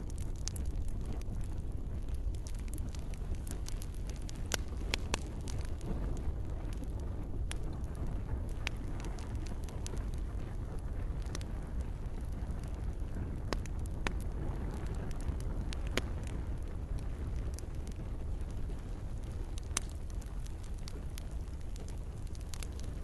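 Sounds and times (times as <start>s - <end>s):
campfire crackling and popping: 0.0s - 23.0s
steady low rumble: 0.0s - 23.0s.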